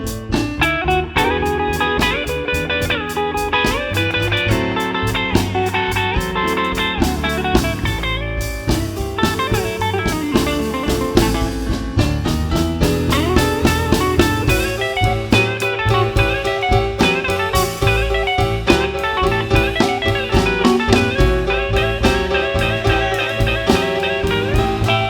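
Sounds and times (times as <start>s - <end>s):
bass: 0.0s - 25.0s
drums with steady cymbal beat: 0.0s - 25.0s
electric guitar with bent notes: 0.0s - 25.0s
piano: 0.0s - 25.0s.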